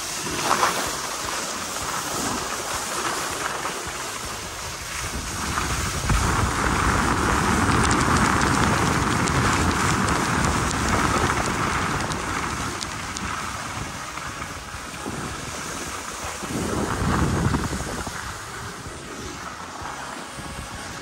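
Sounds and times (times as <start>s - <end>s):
skis hissing on snow: 0.0s - 21.0s
wind rushing over microphone: 0.0s - 21.0s.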